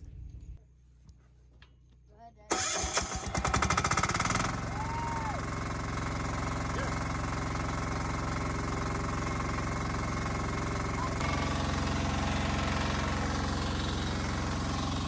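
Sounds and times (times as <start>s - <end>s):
engine idling: 2.5s - 15.0s.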